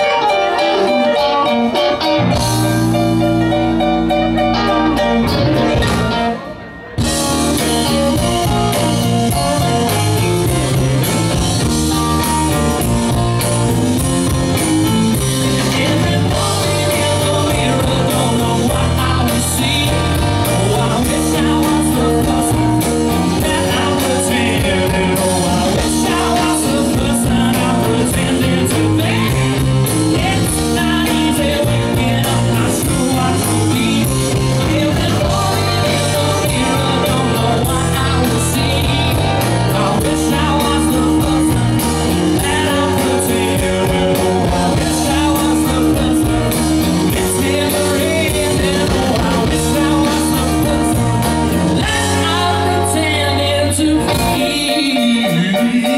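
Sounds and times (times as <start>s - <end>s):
man singing: 0.0s - 12.6s, 15.1s - 55.9s
bass guitar: 0.0s - 55.9s
drums: 0.0s - 55.9s
electric guitar: 0.0s - 55.9s
keyboard: 0.0s - 55.9s.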